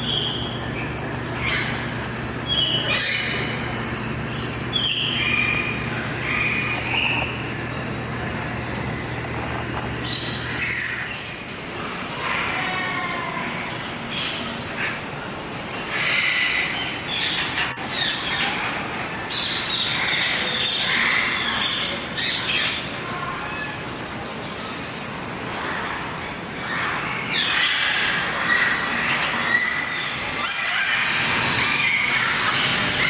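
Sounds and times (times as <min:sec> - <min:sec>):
birds squawking and chirping: 0:00.0 - 0:33.0.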